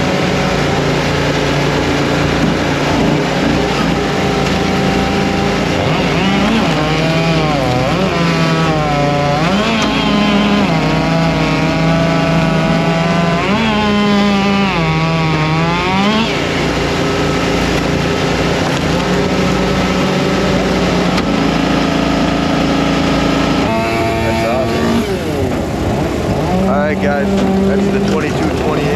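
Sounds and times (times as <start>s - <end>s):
engines in background: 0.0s - 28.9s
log splitter engine running: 0.0s - 28.9s.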